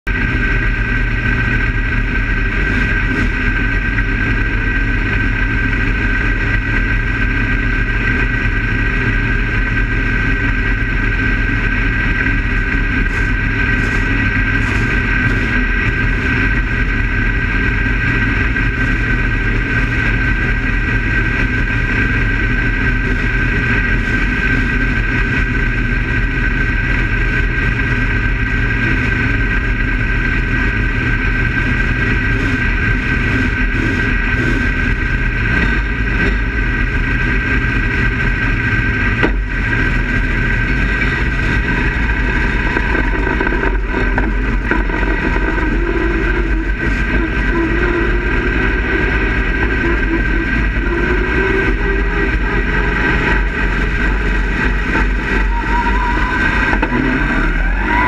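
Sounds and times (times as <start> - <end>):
race car engine idling: 0.0 - 58.0.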